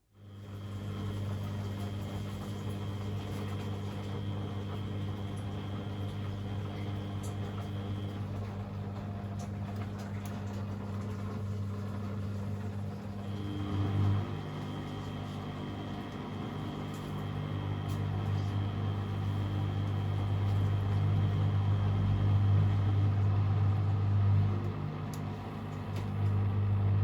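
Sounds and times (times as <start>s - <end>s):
washing machine hum: 0.0s - 27.0s.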